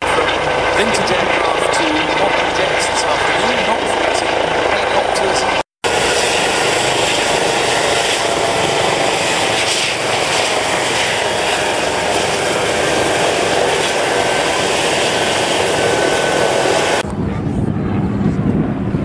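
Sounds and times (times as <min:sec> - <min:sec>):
helicopter turbine whine and rotor: 0:00.0 - 0:19.0.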